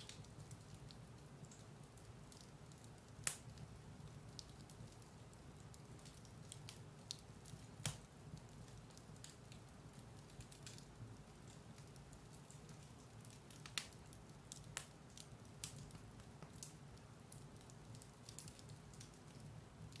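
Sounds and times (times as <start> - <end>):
fire crackles and pops: 0.0 - 20.0
low rumble of fire: 0.0 - 20.0.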